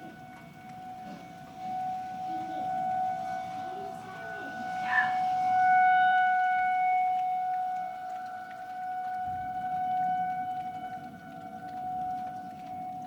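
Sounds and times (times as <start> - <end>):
outdoor warning siren: 0.0 - 13.0.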